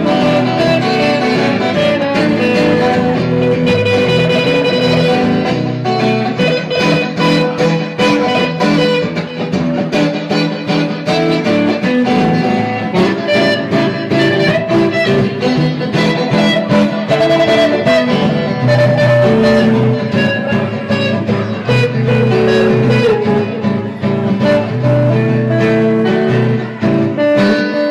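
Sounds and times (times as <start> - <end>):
guitar: 0.0 - 27.9
live band playing: 0.0 - 27.9.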